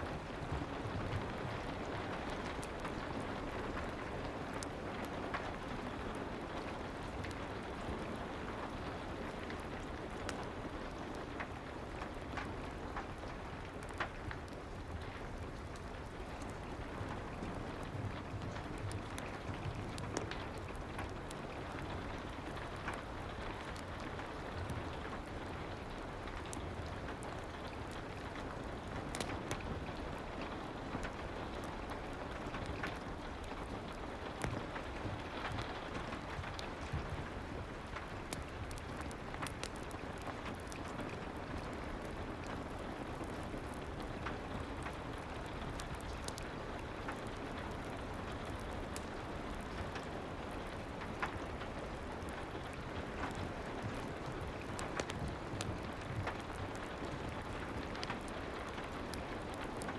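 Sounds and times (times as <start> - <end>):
soft rain: 0.0 - 59.9
wood fire crackling: 0.0 - 59.9.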